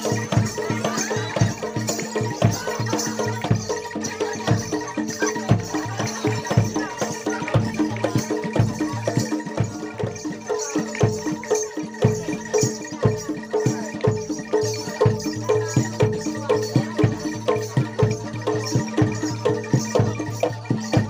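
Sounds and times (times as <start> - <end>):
percussion ensemble beating: 0.0 - 21.0
shaken rattling percussion: 0.0 - 21.0.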